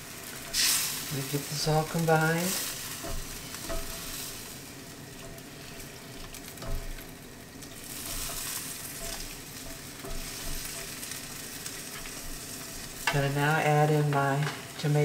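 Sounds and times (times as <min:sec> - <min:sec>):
spatula stirring in a wok: 0:00.0 - 0:14.8
noodles sizzling in a wok: 0:00.0 - 0:15.0.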